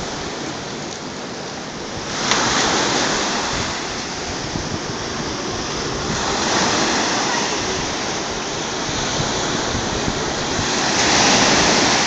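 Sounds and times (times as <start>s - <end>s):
waves breaking on sandy beach: 0.0s - 12.0s.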